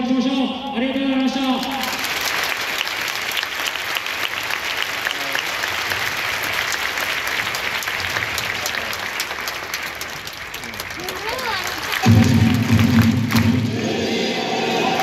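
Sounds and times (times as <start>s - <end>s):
stadium crowd applauding: 1.2s - 13.9s, 14.7s - 15.0s.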